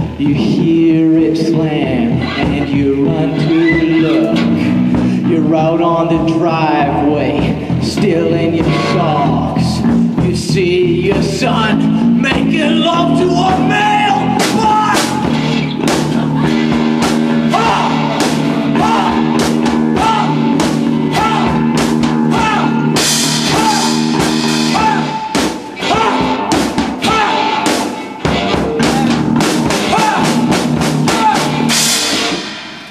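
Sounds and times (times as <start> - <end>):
drum kit: 0.0 - 32.9
guitar: 0.0 - 32.9
live rock band playing: 0.0 - 32.9.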